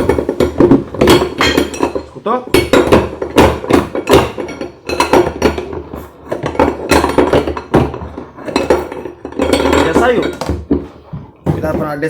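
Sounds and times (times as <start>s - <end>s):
pry bars clanking on metal: 0.0s - 10.8s.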